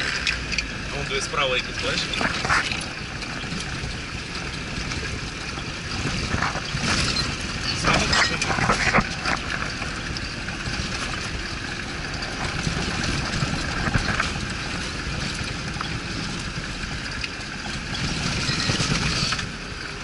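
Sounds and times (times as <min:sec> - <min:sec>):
small rattles: 0:00.0 - 0:20.0
vehicle engine and road noise: 0:00.0 - 0:20.0.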